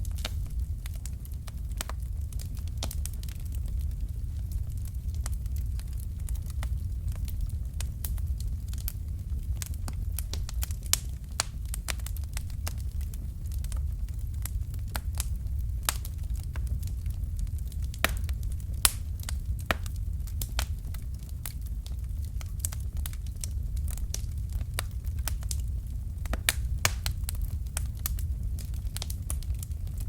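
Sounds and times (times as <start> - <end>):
fire popping and snapping: 0.0 - 30.0
low rumble of flames: 0.0 - 30.0.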